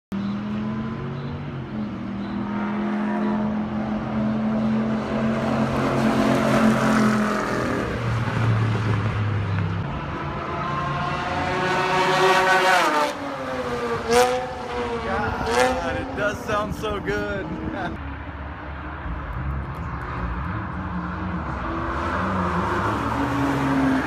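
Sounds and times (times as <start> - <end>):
race car engines passing: 0.1 - 24.0.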